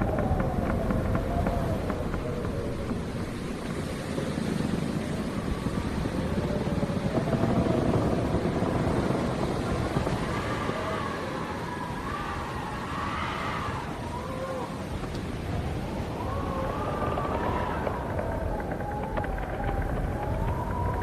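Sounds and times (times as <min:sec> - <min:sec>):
howling wind with whistling: 0:00.0 - 0:21.0.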